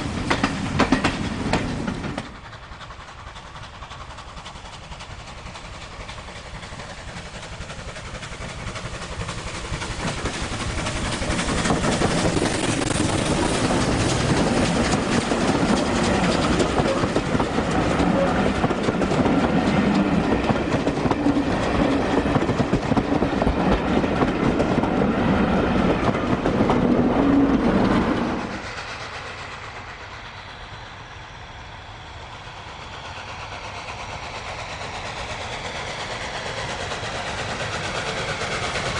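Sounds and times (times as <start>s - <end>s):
train rumble and wheel clatter: 0.0s - 38.9s.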